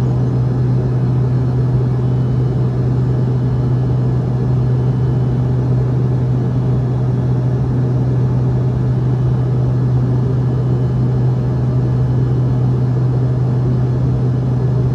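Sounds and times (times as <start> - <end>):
airliner cabin engine drone: 0.0 - 14.9
low hum: 0.0 - 14.9.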